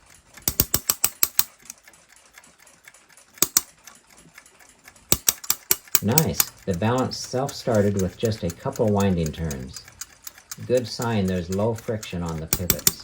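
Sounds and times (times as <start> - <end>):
clock ratchet clicking: 0.0 - 13.0.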